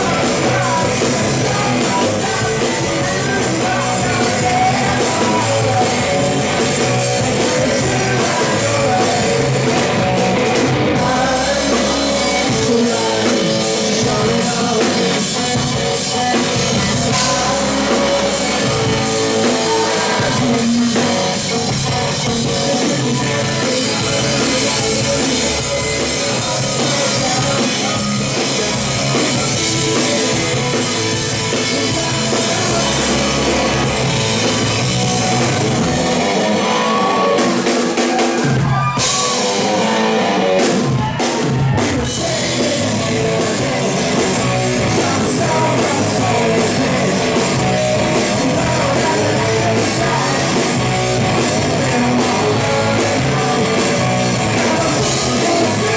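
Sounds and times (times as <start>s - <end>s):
drum kit: 0.0s - 55.9s
electric guitars: 0.0s - 55.9s
person singing: 0.0s - 55.9s.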